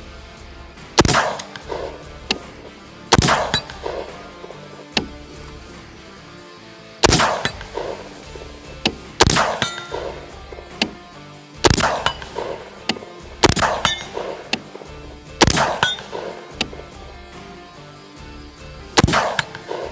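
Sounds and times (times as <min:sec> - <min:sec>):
sharp metallic clangs: 0:00.0 - 0:06.4, 0:07.0 - 0:19.9
background music: 0:00.0 - 0:19.9.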